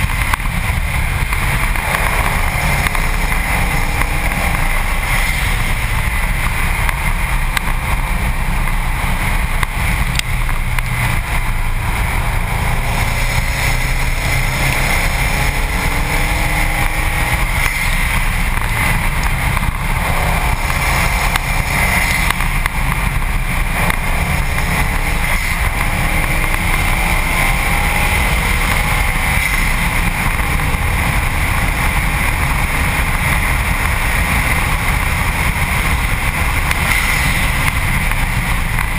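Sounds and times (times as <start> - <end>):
road roar: 0.0 - 38.9
turbocharged car engine revving: 0.0 - 38.9
wind: 0.0 - 38.9.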